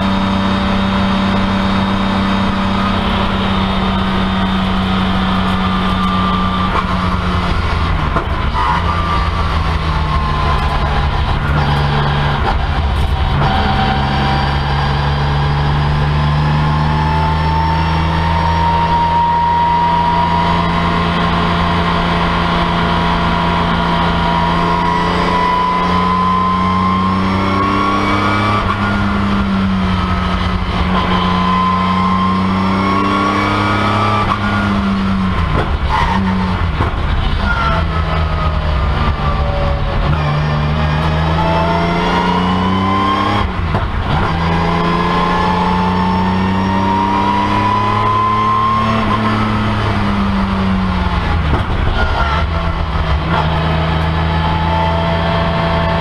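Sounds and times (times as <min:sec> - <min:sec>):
racecar engine revving: 0:00.0 - 0:56.0.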